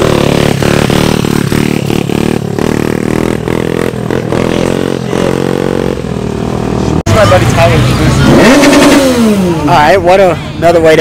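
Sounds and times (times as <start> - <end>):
engine buzzing: 0.0 - 10.9.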